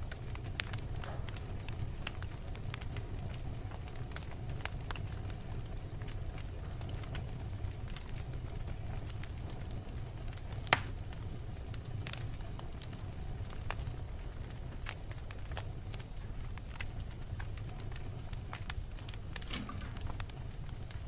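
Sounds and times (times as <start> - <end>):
fire crackles: 0.0 - 21.0
low rumble of flames: 0.0 - 21.0.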